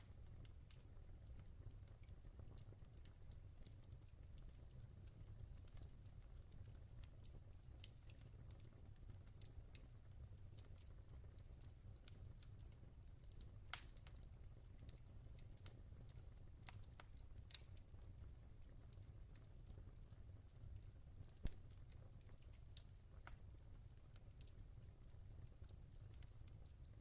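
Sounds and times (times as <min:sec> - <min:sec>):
log fire crackling and popping: 0:00.0 - 0:27.0.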